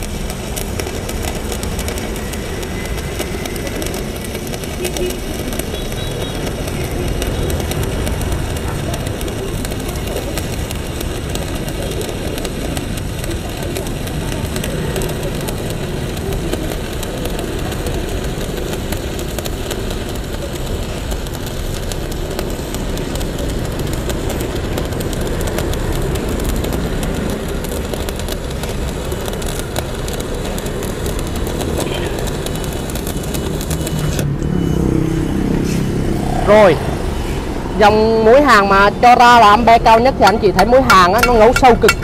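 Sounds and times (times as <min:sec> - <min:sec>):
welding arc crackling: 0:00.0 - 0:42.0.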